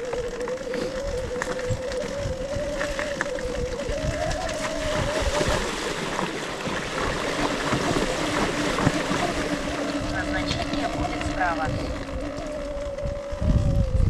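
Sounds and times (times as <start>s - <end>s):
electric motor whining: 0.0s - 14.0s
wind buffeting microphone: 0.0s - 14.0s.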